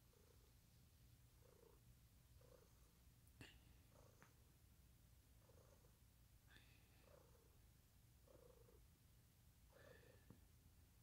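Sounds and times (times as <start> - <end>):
cat purring: 0.0 - 9.0, 9.6 - 10.6.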